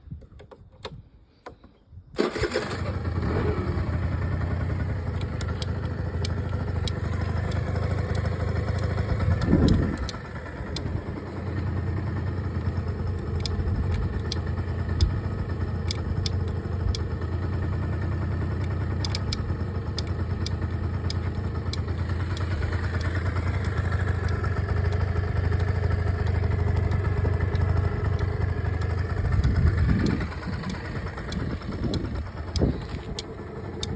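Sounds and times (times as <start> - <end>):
scooter engine starting and idling: 0.4 - 33.9.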